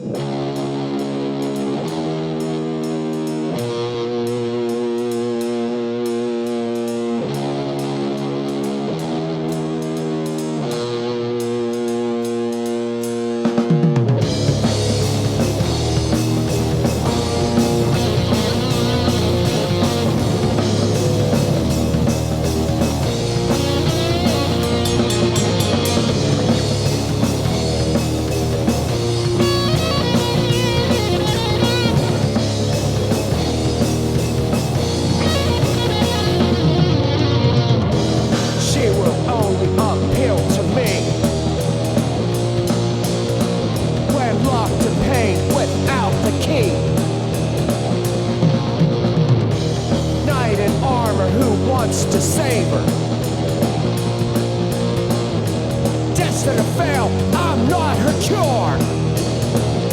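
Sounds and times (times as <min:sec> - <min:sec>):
bass guitar: 0:00.0 - 0:59.9
drums: 0:00.0 - 0:59.9
electric guitar: 0:00.0 - 0:59.9.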